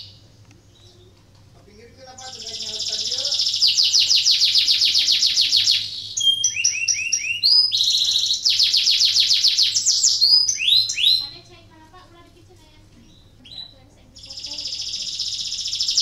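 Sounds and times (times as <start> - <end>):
canary singing trills: 0.0 - 11.8, 12.8 - 16.0.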